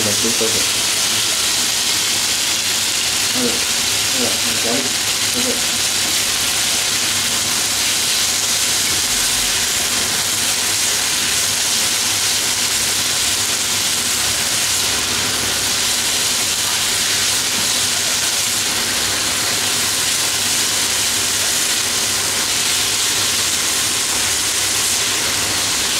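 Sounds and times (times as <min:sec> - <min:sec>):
pork sizzling in a frying pan: 0:00.0 - 0:25.9.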